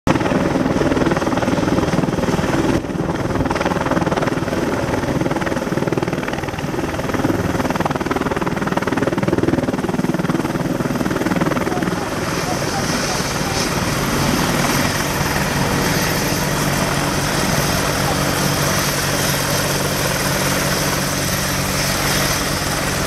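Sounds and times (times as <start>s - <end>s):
helicopter engines whining: 0.1s - 23.0s
helicopter rotor chop: 0.1s - 23.0s.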